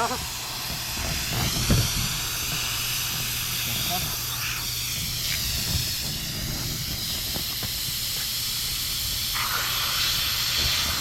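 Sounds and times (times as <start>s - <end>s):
air hissing from tire: 0.0s - 11.0s.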